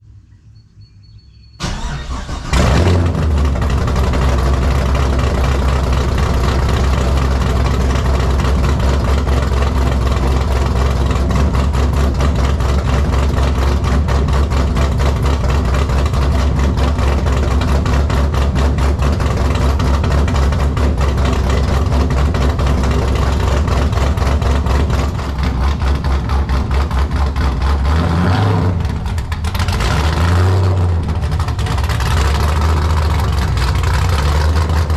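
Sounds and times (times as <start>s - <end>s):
engine cranking: 1.6s - 28.0s, 28.7s - 34.9s
engine revving and idling: 1.6s - 34.9s.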